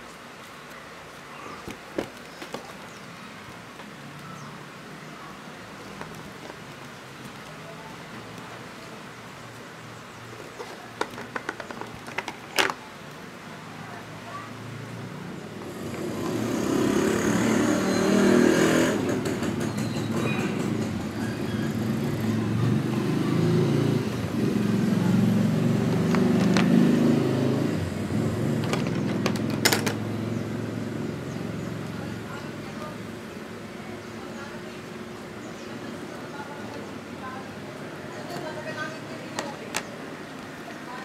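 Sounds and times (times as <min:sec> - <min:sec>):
motor vehicle rumbling: 0:01.2 - 0:41.0.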